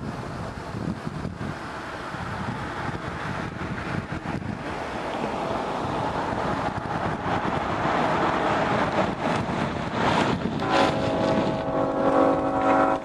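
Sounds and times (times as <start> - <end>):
wind buffeting microphone: 0.0 - 13.0
car approaching: 0.5 - 12.9.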